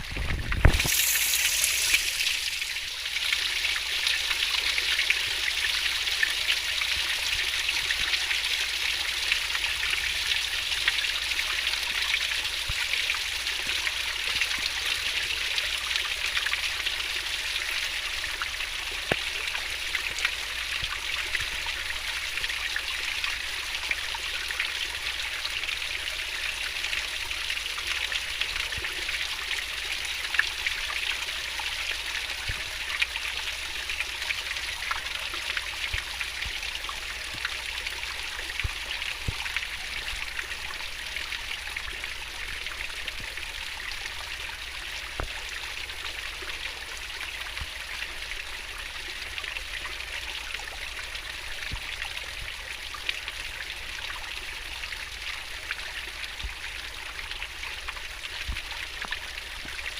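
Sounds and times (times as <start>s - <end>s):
water drips and splashes: 0.0s - 59.9s.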